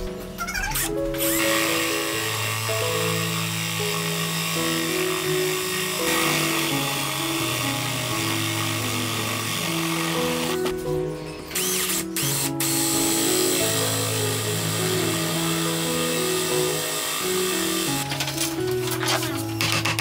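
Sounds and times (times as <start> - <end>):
background music: 0.0 - 20.0
cordless drill boring into wood: 1.2 - 10.7, 11.5 - 18.4.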